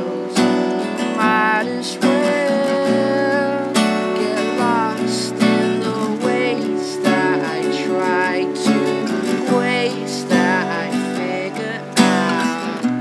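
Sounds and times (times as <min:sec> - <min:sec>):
keyboard playing chords and melody: 0:00.0 - 0:13.0
strummed guitar: 0:00.0 - 0:13.0.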